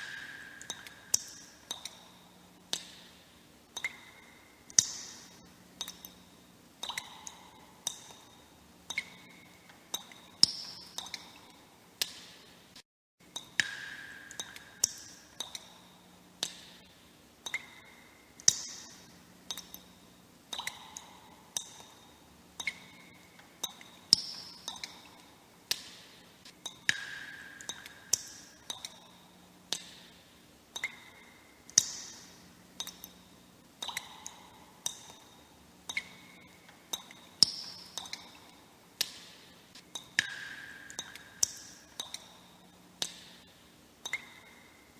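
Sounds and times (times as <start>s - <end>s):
water droplets plinking into water: 0.0s - 3.1s, 3.8s - 6.2s, 6.8s - 12.4s, 13.3s - 16.8s, 17.4s - 19.9s, 20.5s - 26.0s, 26.6s - 30.2s, 30.8s - 32.2s, 32.8s - 33.2s, 33.8s - 43.4s, 44.0s - 44.6s.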